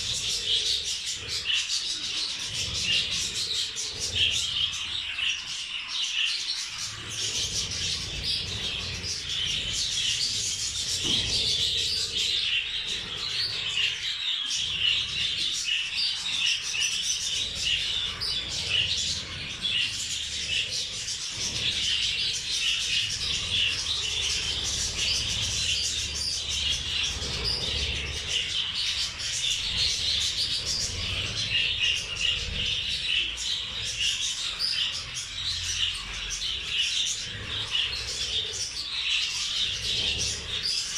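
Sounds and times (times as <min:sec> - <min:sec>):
caged birds chirping and chattering: 0:00.0 - 0:40.9.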